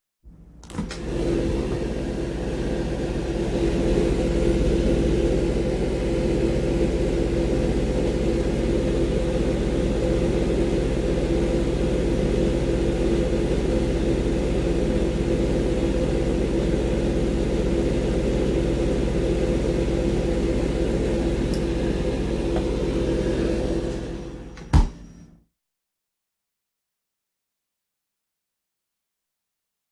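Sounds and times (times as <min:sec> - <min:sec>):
refrigeration machinery humming: 0:00.4 - 0:25.3.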